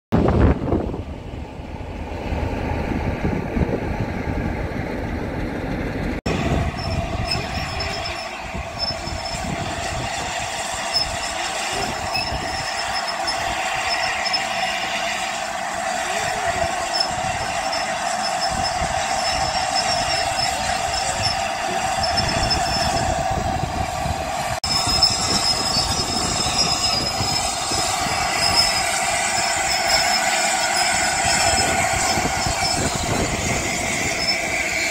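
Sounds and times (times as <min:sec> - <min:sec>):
steam locomotive simmering: 0:00.4 - 0:34.9.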